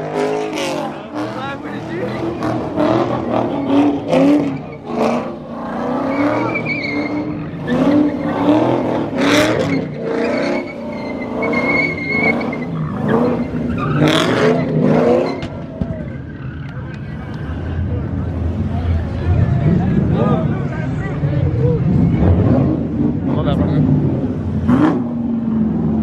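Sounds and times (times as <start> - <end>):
car engine revving: 0.0 - 26.0
tires screeching: 0.0 - 26.0.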